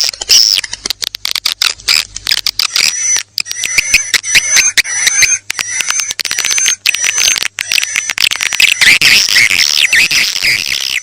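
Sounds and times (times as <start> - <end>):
rapid dry bird clicking: 0.0 - 9.0.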